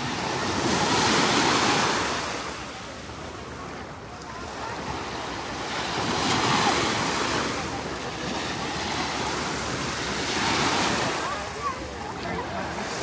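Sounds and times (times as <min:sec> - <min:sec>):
sea waves breaking on beach: 0:00.0 - 0:13.0.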